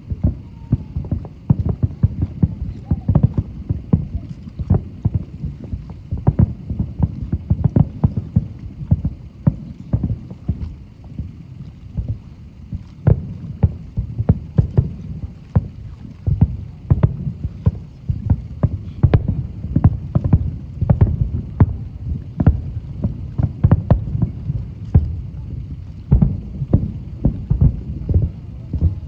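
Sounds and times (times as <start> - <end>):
fireworks booming: 0.0 - 29.0
low rumble of explosions: 0.0 - 29.0.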